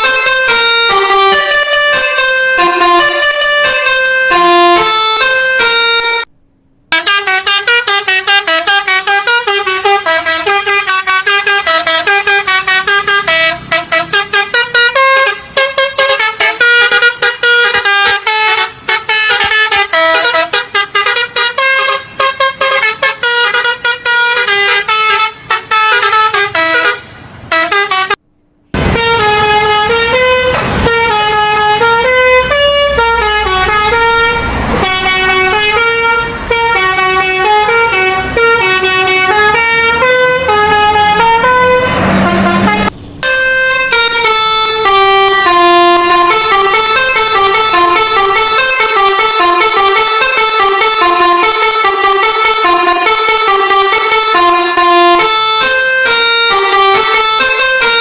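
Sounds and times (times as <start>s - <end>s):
bus musical air horn melody: 0.0s - 6.3s, 6.9s - 28.2s, 28.8s - 58.0s
engine and street noise: 0.0s - 58.0s.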